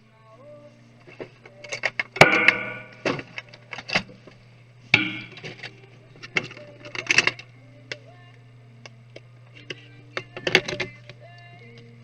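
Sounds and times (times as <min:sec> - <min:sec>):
steady low hum: 0:00.0 - 0:12.0
laptop and tools clattering: 0:01.0 - 0:08.1, 0:09.1 - 0:12.0.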